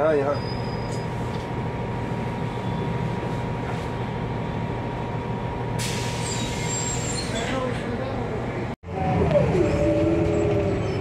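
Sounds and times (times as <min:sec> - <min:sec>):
bus engine and road drone: 0:00.0 - 0:11.0.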